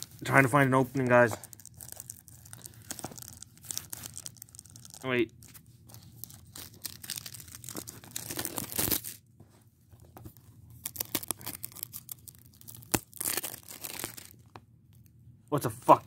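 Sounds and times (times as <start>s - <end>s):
plastic wrap tearing and crinkling: 0.0s - 9.2s, 10.7s - 14.6s.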